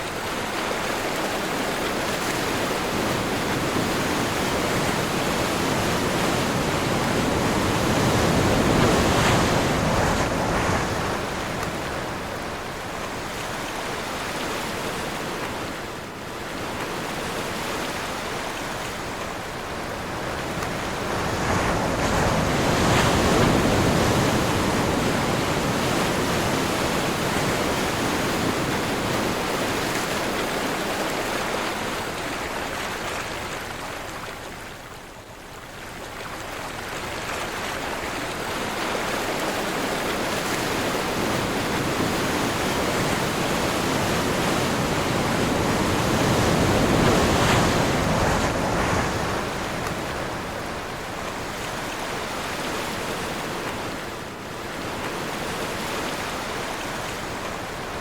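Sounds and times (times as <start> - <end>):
waves breaking: 0.0 - 58.0
wind: 0.0 - 58.0.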